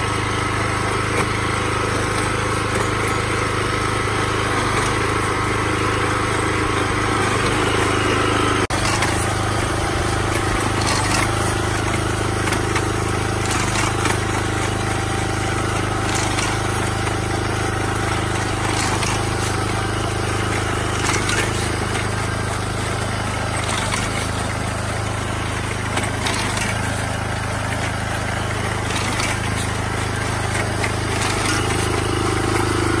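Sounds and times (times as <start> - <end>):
small engine running steadily: 0.0 - 33.0.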